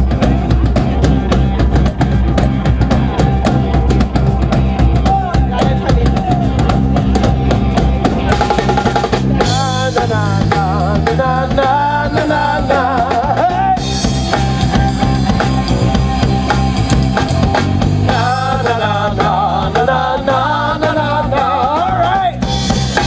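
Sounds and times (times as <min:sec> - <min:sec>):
drum-kit beat: 0:00.0 - 0:23.0
upbeat band music: 0:00.0 - 0:23.0.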